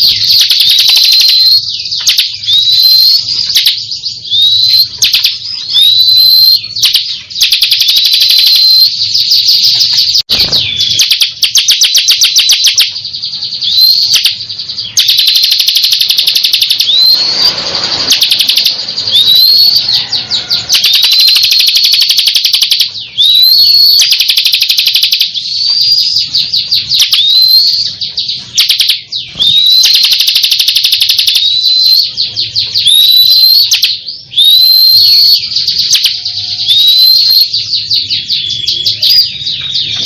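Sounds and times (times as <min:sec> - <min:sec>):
bird singing trills and whistles: 0:00.0 - 0:40.0.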